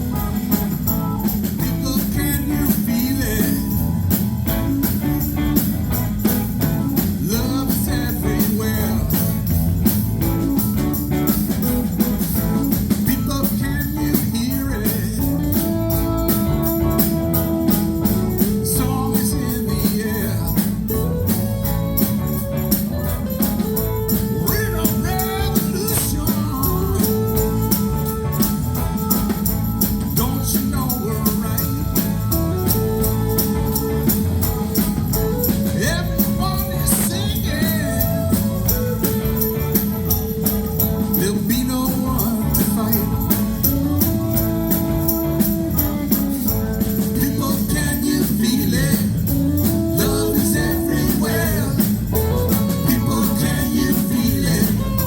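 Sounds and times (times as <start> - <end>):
rock band playing: 0.0 - 55.0
sliding lead guitar lines: 0.0 - 55.0
tambourine beat: 0.0 - 55.0.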